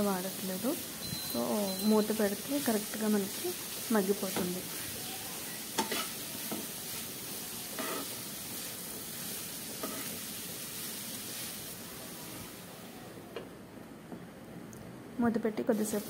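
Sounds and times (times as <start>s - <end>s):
vegetables sizzling in oil: 0.0s - 13.2s, 15.6s - 16.0s.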